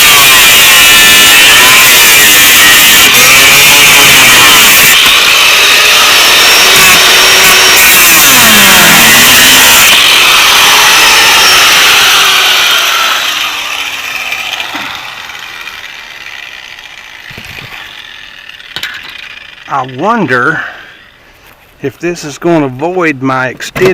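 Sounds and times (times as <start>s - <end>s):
cut-off wheel grinding metal: 0.0s - 21.6s.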